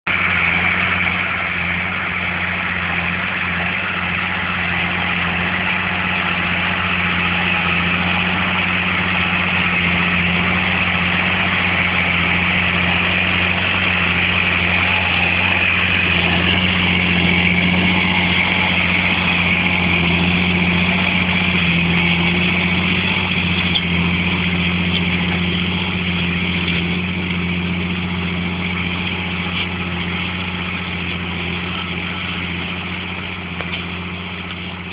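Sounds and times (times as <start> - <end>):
diesel tractor engine droning: 0.0 - 34.9.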